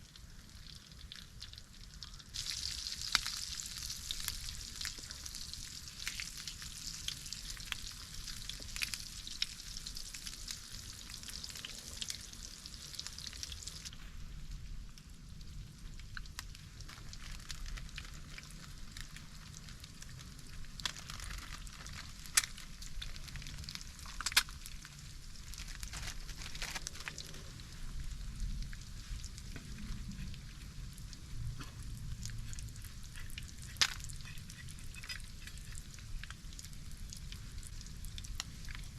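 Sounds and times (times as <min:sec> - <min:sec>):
food sizzling over coals: 0:00.0 - 0:38.9.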